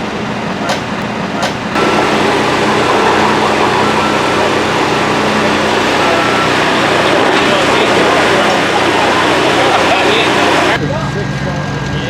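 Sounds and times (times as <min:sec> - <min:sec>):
faint whining tones: 0:00.0 - 0:10.8
vehicle engine running: 0:00.0 - 0:12.0.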